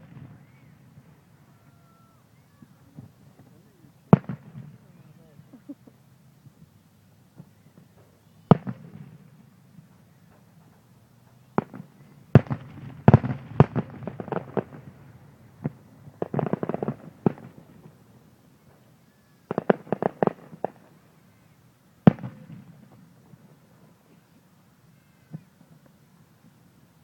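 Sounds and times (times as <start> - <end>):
fireworks exploding: 0.0 - 6.6, 7.3 - 21.1, 22.0 - 24.2.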